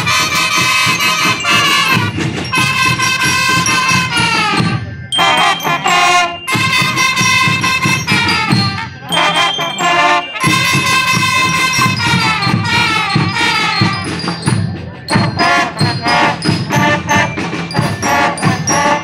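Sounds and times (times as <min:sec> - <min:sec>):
brass melody: 0:00.0 - 0:19.0
steady drum beat: 0:00.0 - 0:19.0.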